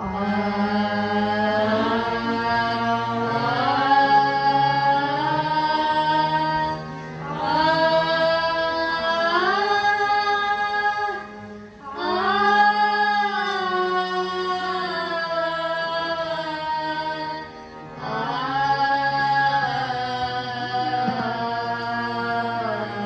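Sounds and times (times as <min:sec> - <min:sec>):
sustained low accompanying notes: 0:00.0 - 0:23.0.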